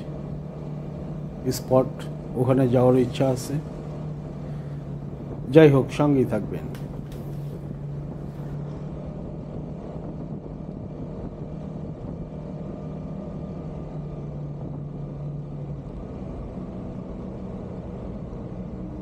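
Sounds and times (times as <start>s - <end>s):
road and wind rumble: 0.0s - 19.0s
vehicle engine running: 0.0s - 19.0s.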